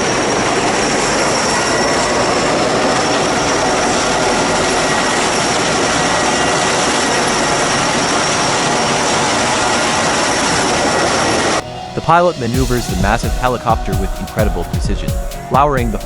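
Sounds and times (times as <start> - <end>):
faint high whine: 0.0 - 14.6
helicopter turbine and rotor rush: 0.0 - 16.0.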